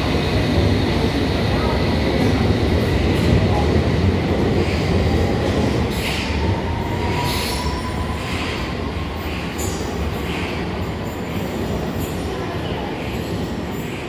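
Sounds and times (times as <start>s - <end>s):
train rumbling through tunnel: 0.0s - 14.0s.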